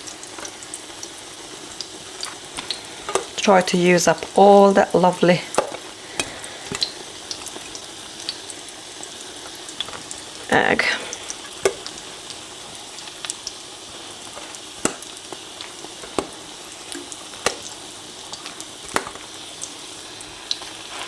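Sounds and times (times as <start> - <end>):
bread sizzling in a frying pan: 0.0 - 21.0
sharp spits and pops: 0.2 - 4.4, 5.4 - 20.8.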